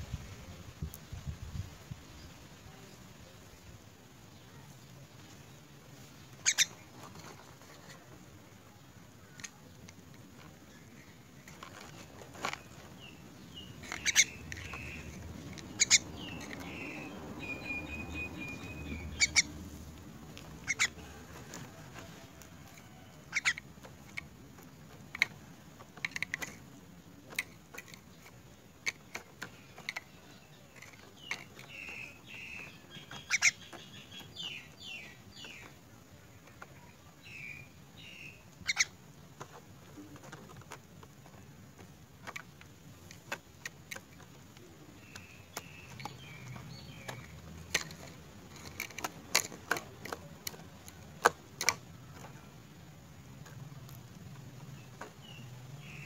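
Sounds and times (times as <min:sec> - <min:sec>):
bird bill pecking: 0:05.9 - 0:56.0.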